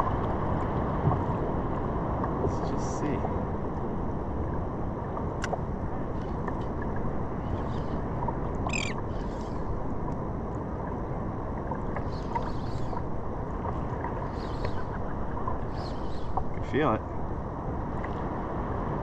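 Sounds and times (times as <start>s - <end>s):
ocean water washing: 0.0s - 19.0s
wind: 0.0s - 19.0s.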